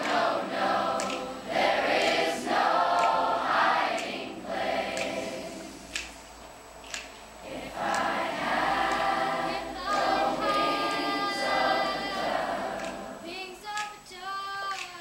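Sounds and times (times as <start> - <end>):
children's choir singing: 0.0 - 6.3, 6.9 - 15.0.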